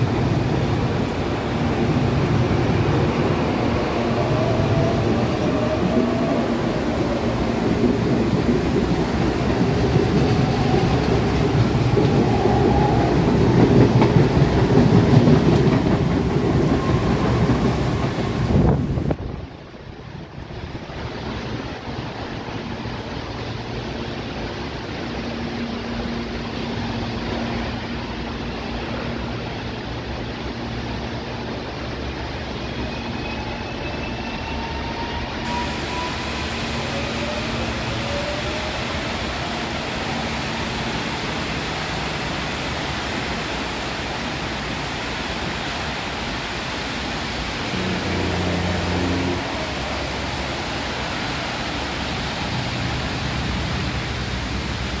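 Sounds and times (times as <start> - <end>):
electric train rushing hum: 0.0 - 55.0.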